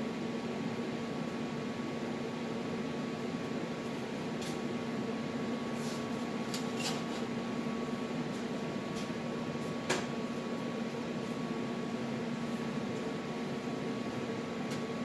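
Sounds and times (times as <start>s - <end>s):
welding arc hum and hiss: 0.0s - 15.0s.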